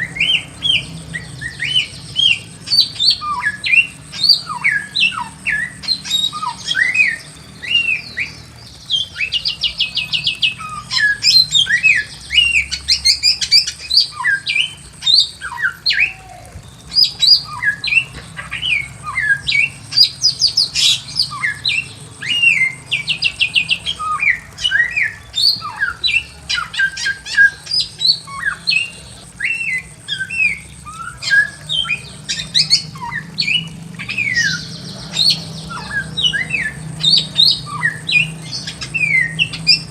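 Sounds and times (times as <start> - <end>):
bird whistling and trilling: 0.0 - 39.9.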